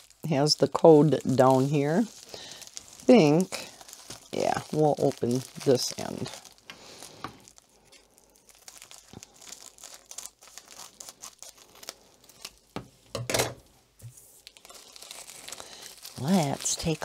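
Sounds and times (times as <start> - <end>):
plastic crinkling: 0.0 - 17.0.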